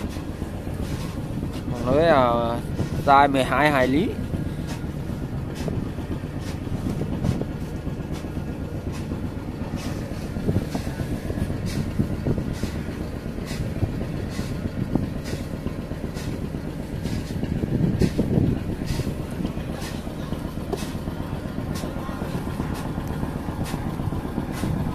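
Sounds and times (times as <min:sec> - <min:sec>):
boat engine rumbling: 0:00.0 - 0:24.9.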